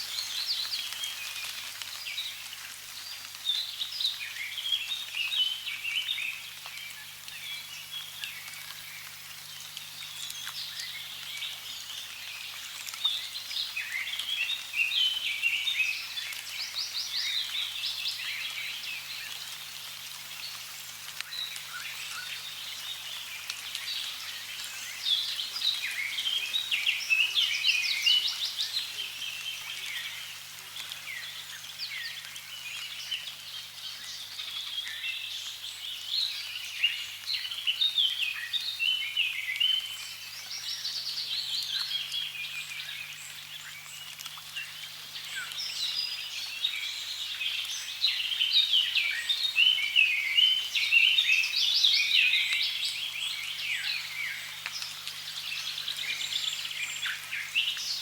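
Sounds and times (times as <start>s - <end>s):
birds singing and trilling: 0.0s - 58.0s
faint hiss of running water: 0.0s - 58.0s.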